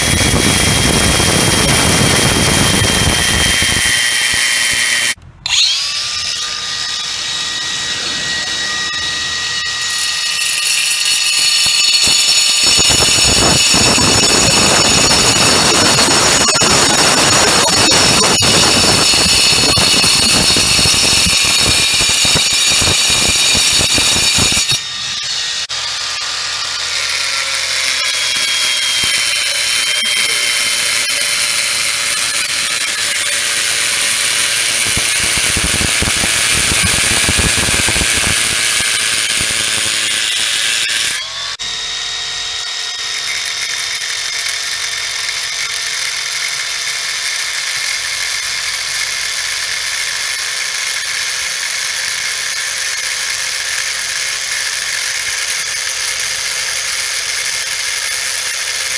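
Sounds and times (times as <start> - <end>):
cutter blade spinning whine: 0.0 - 58.9
power cutter grinding stone: 0.0 - 58.9.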